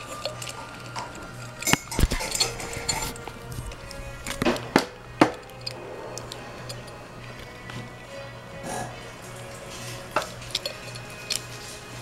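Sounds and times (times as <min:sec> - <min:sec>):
small parts clinking and rustling: 0:00.0 - 0:07.8, 0:09.2 - 0:12.0
steady hum: 0:00.0 - 0:12.0.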